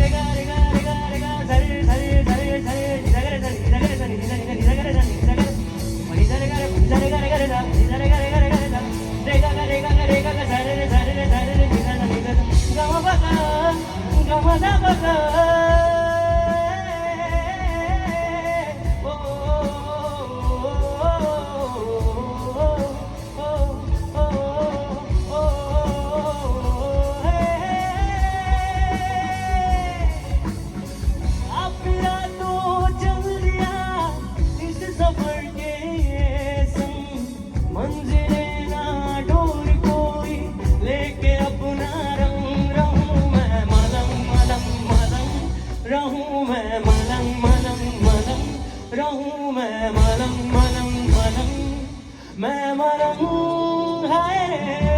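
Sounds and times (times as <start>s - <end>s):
drum kit steady beat: 0.0s - 54.9s
live band music: 0.0s - 54.9s.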